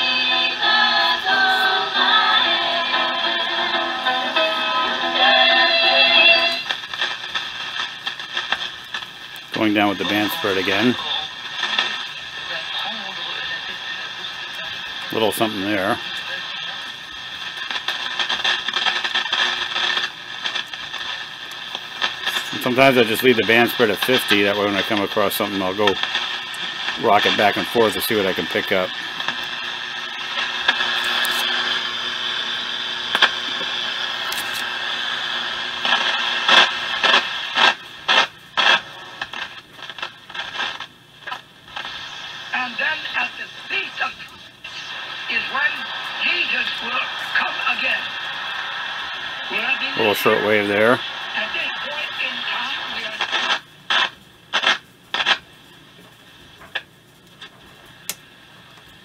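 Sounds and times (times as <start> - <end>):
choppy radio tuning bursts: 0.0 - 59.0
faint steady radio tones: 0.0 - 59.0
radio static hiss: 0.0 - 59.0.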